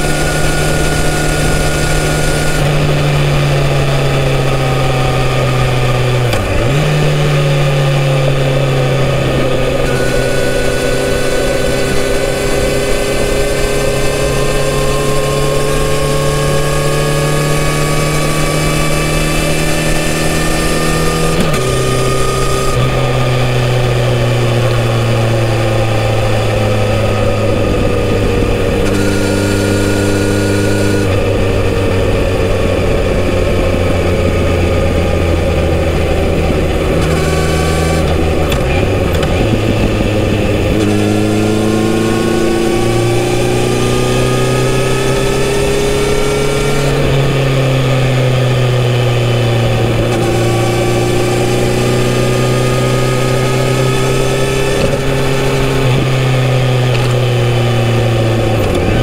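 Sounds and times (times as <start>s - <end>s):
motorcycle engine at speed: 0.0s - 59.0s
wind rush: 0.0s - 59.0s.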